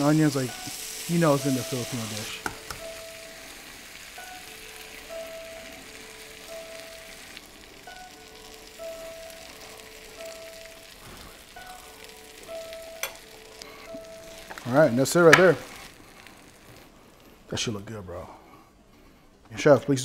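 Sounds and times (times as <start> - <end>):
food sizzling in a skillet: 0.0 - 17.4
soft background music: 0.0 - 18.4.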